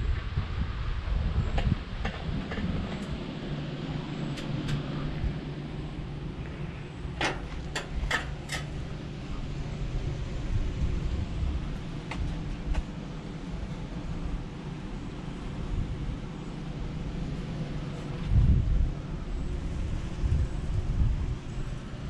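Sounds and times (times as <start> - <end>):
wind on microphone: 0.0 - 14.6, 15.5 - 22.0
bicycle tyres rumbling: 0.0 - 22.0.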